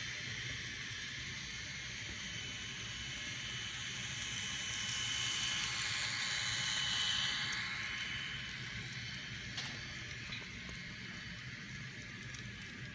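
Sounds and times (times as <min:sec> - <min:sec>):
model train motor whirring: 0:00.0 - 0:12.9.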